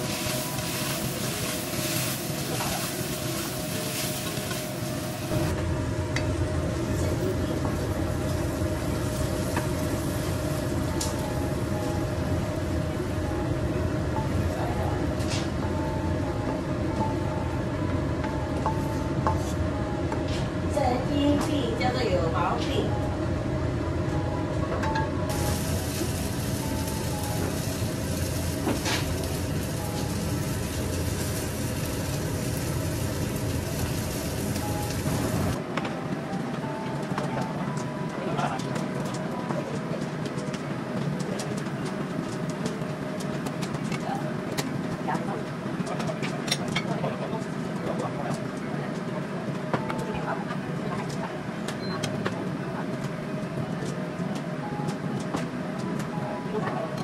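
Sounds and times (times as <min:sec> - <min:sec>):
range hood fan whooshing: 0:00.0 - 0:57.0.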